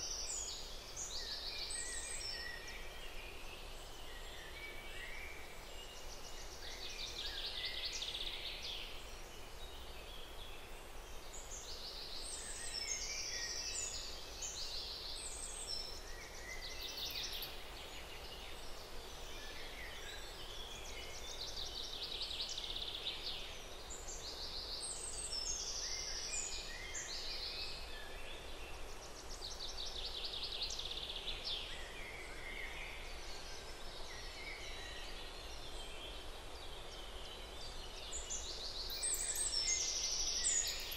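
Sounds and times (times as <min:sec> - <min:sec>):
small birds chirping and trilling: 0:00.0 - 0:40.9
steady outdoor hiss: 0:00.0 - 0:40.9.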